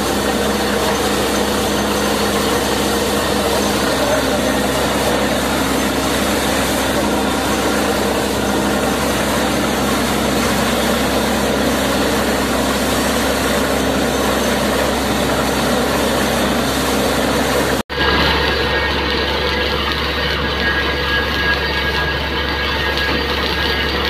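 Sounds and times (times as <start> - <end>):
compressed air blowing water: 0.0 - 24.0
drilling rig running: 0.0 - 24.0
water splashing onto ground: 0.0 - 24.0.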